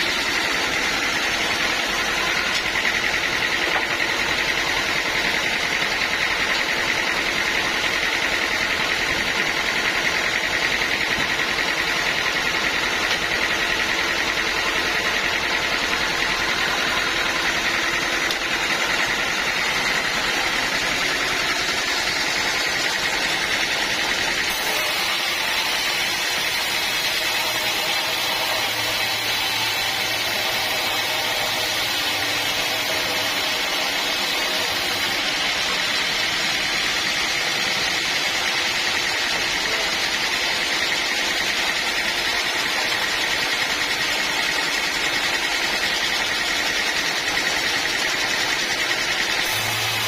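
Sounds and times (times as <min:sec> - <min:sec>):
sawmill machinery running: 0:00.0 - 0:50.0.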